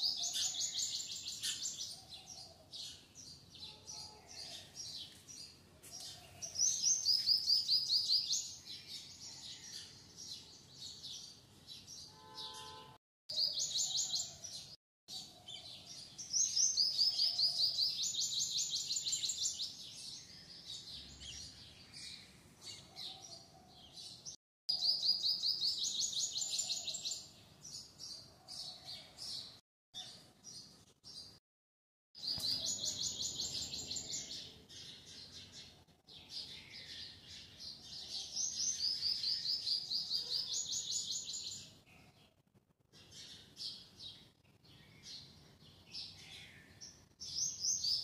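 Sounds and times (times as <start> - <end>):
small birds chirping: 0.0 - 31.4, 32.2 - 48.0.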